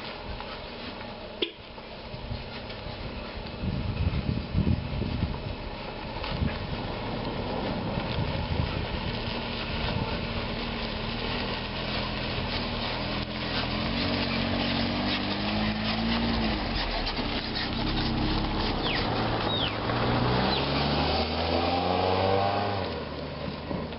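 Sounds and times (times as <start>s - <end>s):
car engine driving slowly past: 0.0s - 23.9s
tyres crunching over gravel: 0.0s - 23.9s.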